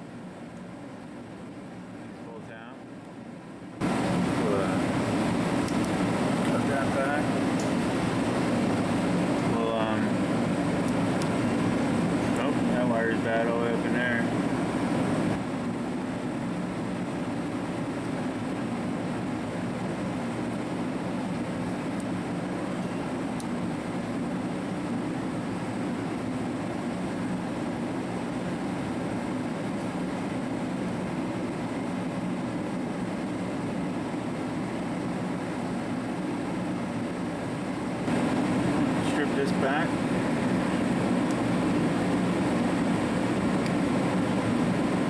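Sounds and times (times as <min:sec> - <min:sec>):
heater running with steady rush: 0:00.0 - 0:45.0.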